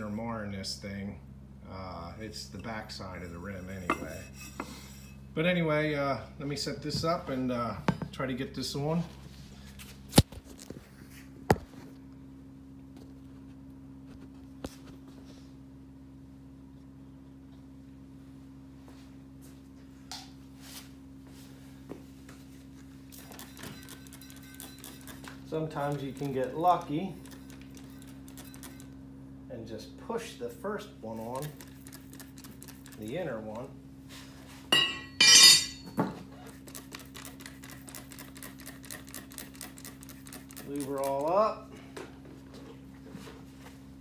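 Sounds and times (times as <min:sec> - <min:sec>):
low garage hum: 0:00.0 - 0:44.0.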